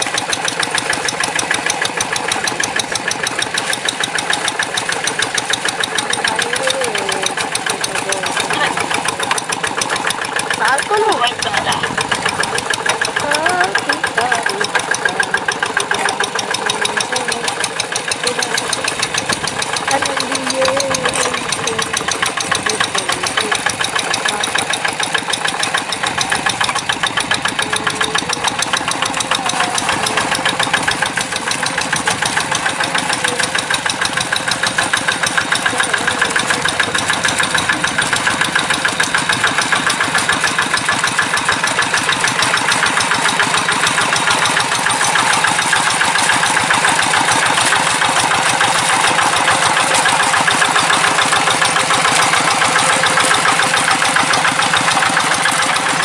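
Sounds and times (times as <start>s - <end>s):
diesel engine putter: 0.0s - 56.0s.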